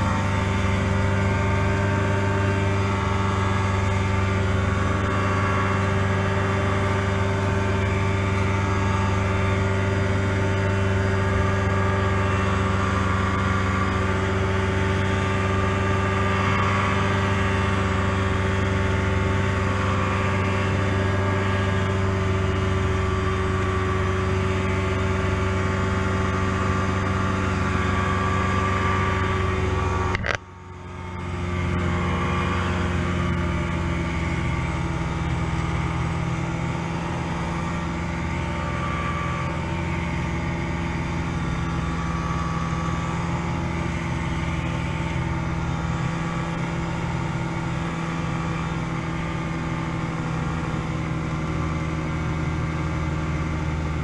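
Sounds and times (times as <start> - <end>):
two-stroke aircraft engine: 0.0 - 54.0.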